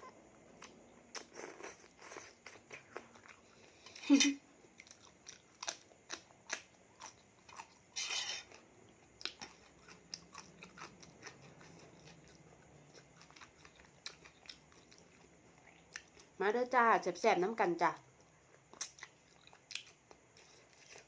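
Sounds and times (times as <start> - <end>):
person chewing with crunches: 0.2 - 16.4, 18.1 - 21.0.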